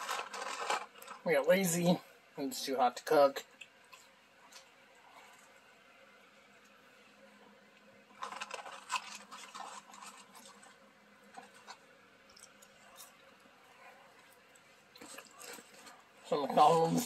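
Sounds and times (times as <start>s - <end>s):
crackly chewing of fries: 0.0s - 1.3s, 3.4s - 17.0s.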